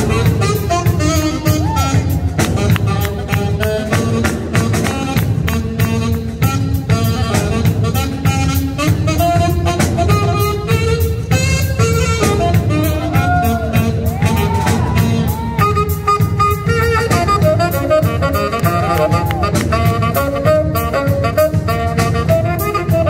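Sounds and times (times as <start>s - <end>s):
drum kit beat: 0.0s - 23.0s
saxophone melody: 0.0s - 23.0s.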